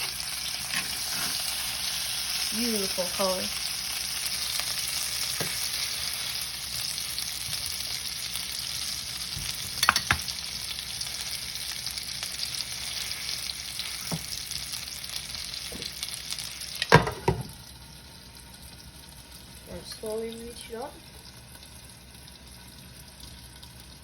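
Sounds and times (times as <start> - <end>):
steak sizzling in a pan: 0.0 - 24.0.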